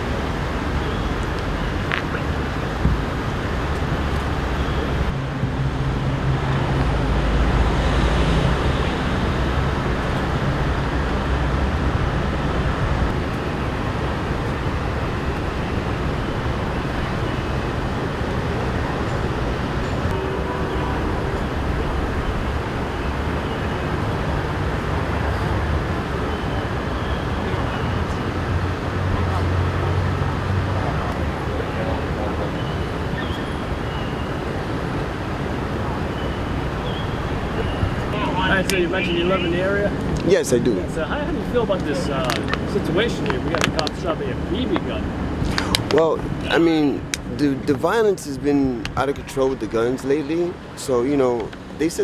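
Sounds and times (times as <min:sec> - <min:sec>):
faint engine hum: 0:00.0 - 0:52.0
traffic rumble: 0:00.0 - 0:52.0.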